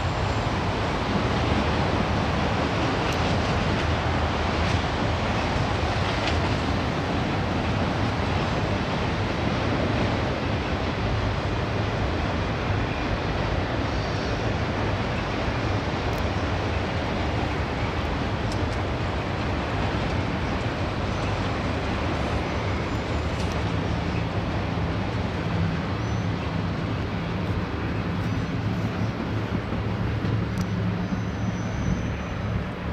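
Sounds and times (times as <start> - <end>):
freight train rumbling on rails: 0.0 - 32.9.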